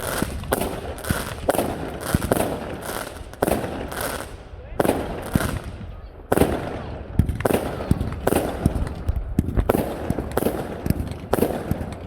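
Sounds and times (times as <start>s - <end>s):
distant fireworks rumble and crackle: 0.0s - 12.0s
fireworks bangs: 0.0s - 12.0s.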